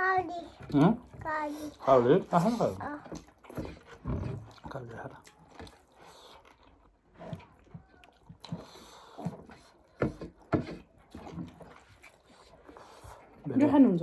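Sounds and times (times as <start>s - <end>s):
chewing: 0.2s - 13.9s.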